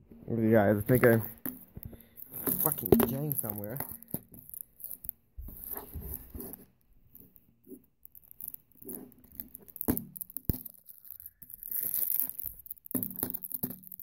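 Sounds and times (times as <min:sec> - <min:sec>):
plastic wrap crinkling: 0:00.7 - 0:14.0.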